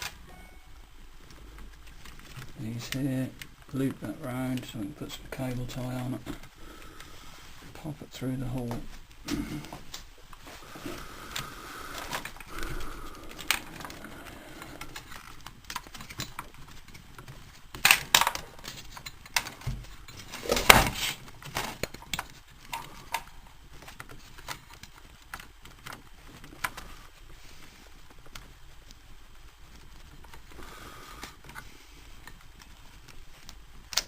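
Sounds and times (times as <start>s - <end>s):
wires clicking and rattling: 0.0s - 34.0s.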